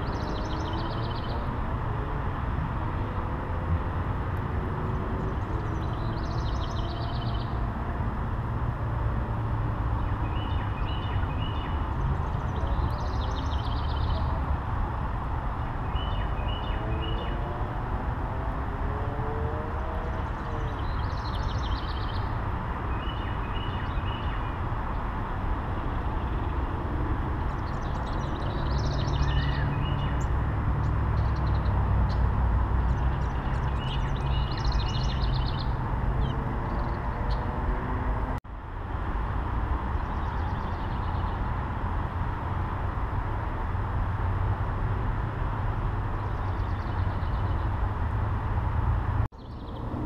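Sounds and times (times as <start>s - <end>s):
songbirds singing: 0.0s - 38.4s, 39.7s - 41.8s, 45.2s - 48.0s, 49.3s - 50.0s.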